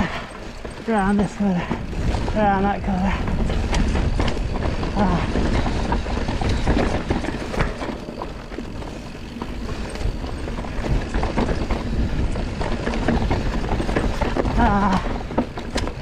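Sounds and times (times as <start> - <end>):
bike rattling and knocking: 0.0 - 16.0
bike tyres rolling over dirt: 0.0 - 16.0.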